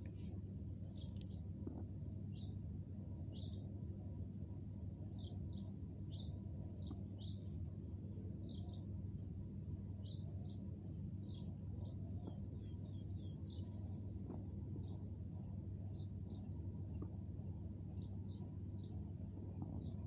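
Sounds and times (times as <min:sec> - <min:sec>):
small birds chirping: 0:00.0 - 0:03.8, 0:04.8 - 0:20.0
steady low hum: 0:00.0 - 0:20.0.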